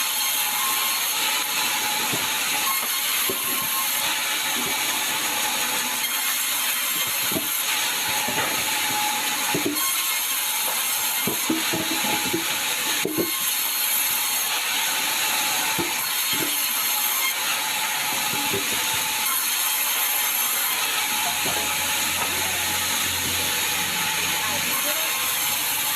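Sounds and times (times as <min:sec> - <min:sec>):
saw cutting through log: 0:00.0 - 0:25.9.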